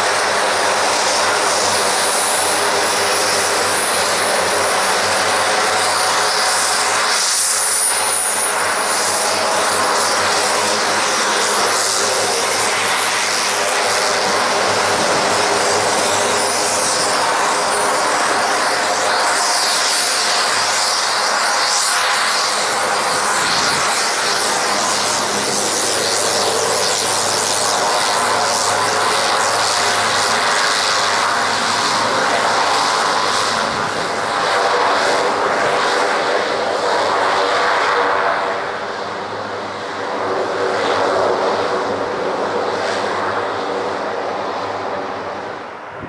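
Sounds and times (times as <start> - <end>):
turboprop aircraft engine whine: 0.0 - 46.0.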